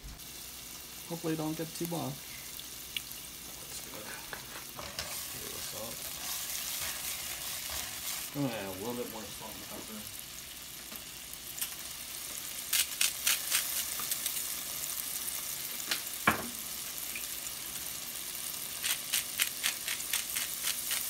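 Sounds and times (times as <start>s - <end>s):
garlic and butter sizzling: 0.0s - 21.0s.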